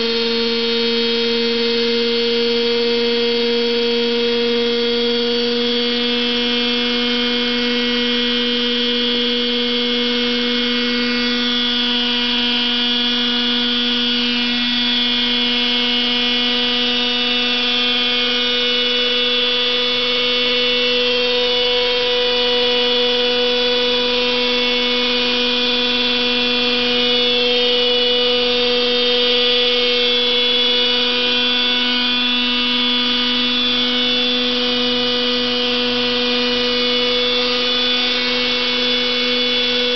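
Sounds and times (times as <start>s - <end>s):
model helicopter motor whine: 0.0s - 39.9s.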